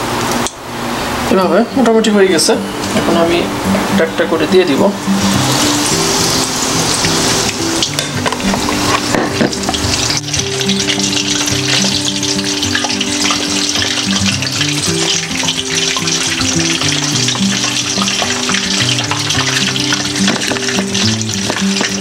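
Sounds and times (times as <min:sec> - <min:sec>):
background music: 0:01.7 - 0:22.0
chicken sizzling in hot oil: 0:03.8 - 0:22.0.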